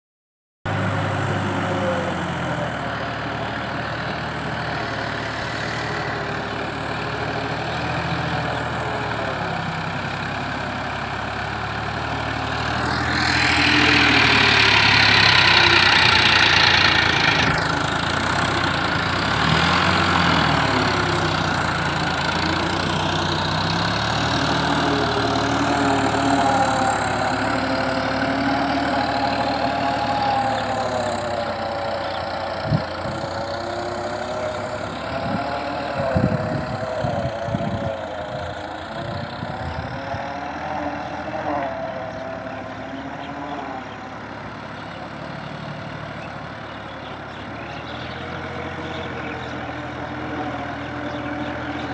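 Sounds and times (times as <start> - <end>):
tractor diesel engine running: 0.7 - 51.9.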